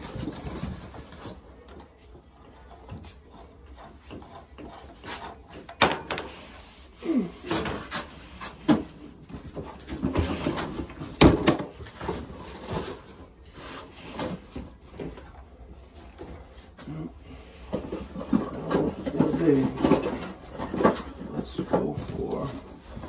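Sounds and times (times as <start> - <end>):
tools knocking and scraping: 0.0 - 16.8, 17.6 - 23.0.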